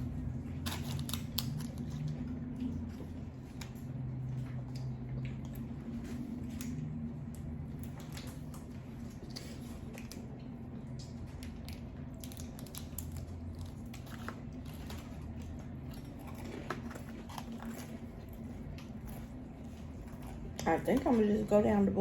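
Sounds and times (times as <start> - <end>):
chewing noodles: 0.0 - 21.7.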